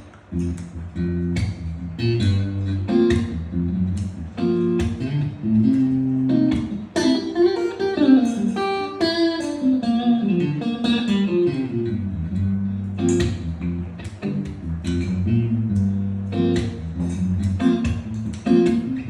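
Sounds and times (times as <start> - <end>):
guitar plucked melody: 0.0 - 19.0.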